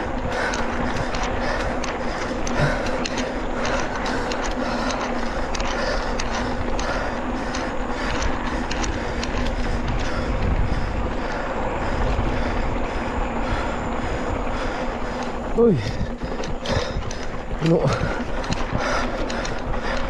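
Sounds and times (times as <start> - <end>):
chain and frame rattling: 0.0 - 20.0
tyres rumbling over dirt: 0.0 - 20.0
wind buffeting microphone: 0.0 - 20.0.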